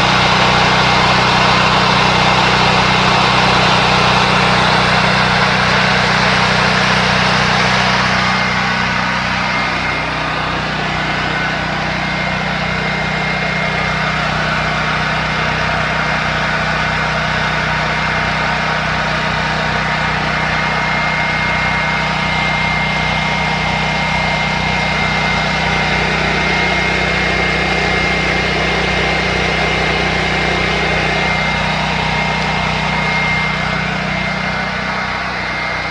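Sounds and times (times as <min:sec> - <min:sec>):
generator engine humming: 0:00.0 - 0:35.9.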